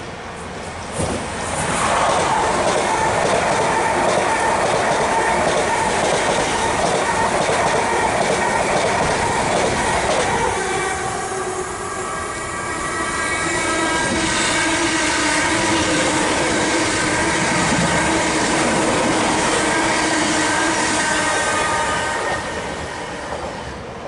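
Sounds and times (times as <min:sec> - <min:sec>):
train whine: 0:00.0 - 0:24.0
wheel and rail noise: 0:00.0 - 0:24.0.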